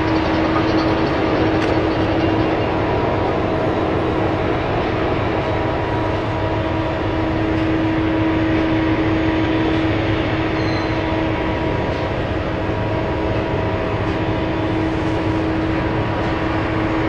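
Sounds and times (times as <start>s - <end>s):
steady whine: 0.0s - 17.0s.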